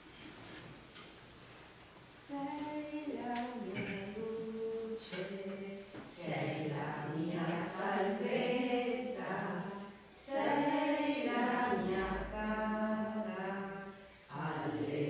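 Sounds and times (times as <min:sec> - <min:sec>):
women chanting together: 0:02.2 - 0:15.0.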